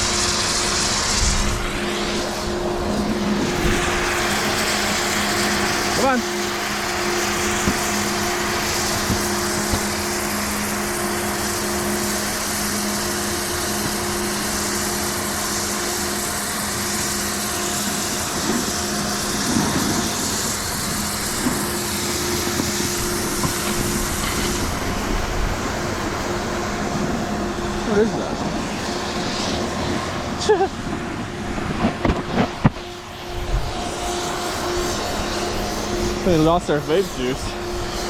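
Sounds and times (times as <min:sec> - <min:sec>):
wind rushing over microphone: 0:00.0 - 0:15.3, 0:16.6 - 0:38.0
low mechanical hum: 0:00.0 - 0:38.0
snowboard sliding on snow: 0:00.0 - 0:38.0.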